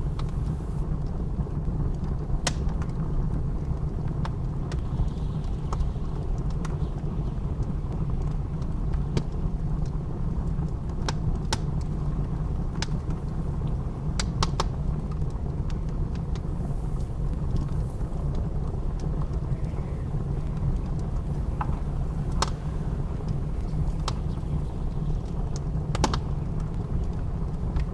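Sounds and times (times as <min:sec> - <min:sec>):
blizzard wind rumble: 0:00.0 - 0:27.9
wood fire crackling: 0:00.0 - 0:27.9.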